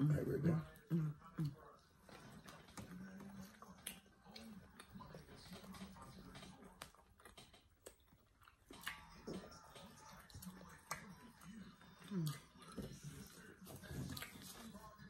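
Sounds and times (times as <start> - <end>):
chewing: 0.6 - 15.0.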